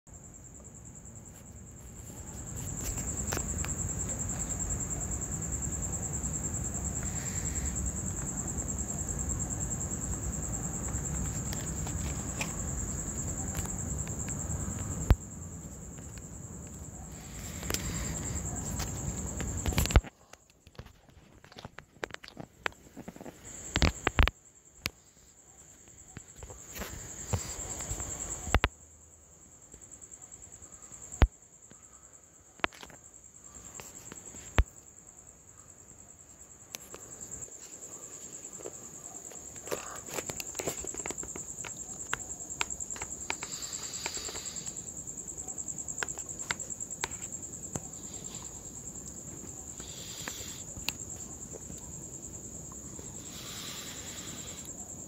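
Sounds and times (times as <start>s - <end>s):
high-pitched insect trill: 0.1s - 55.0s.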